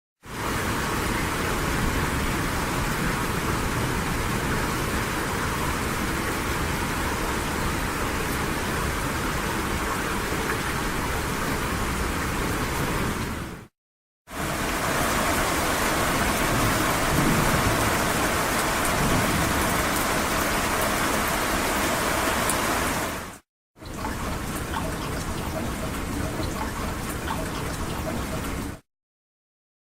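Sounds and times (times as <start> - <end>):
steady rain falling: 0.3 - 13.6, 14.3 - 28.8.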